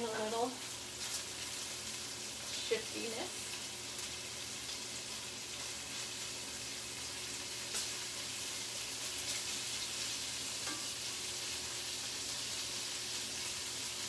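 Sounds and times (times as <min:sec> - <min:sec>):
bacon sizzling: 0:00.0 - 0:14.0.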